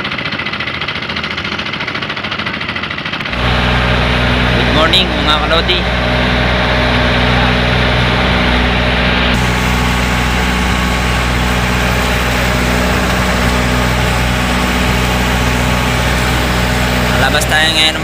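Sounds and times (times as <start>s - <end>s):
boat engine low drone: 0.0s - 18.0s.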